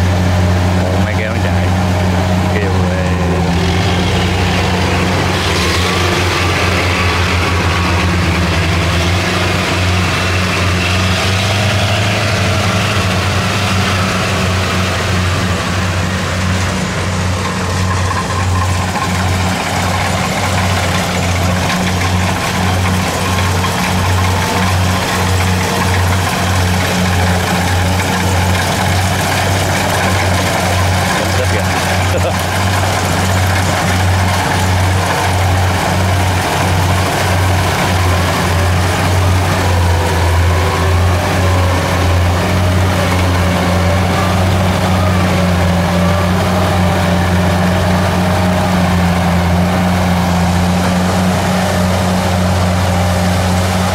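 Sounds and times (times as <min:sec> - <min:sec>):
combine harvester engine running: 0:00.0 - 0:53.9.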